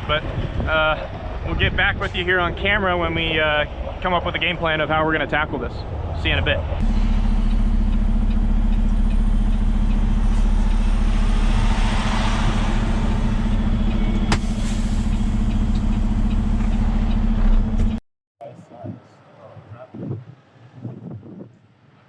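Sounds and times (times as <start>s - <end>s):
truck diesel engine idling: 0.1s - 18.0s.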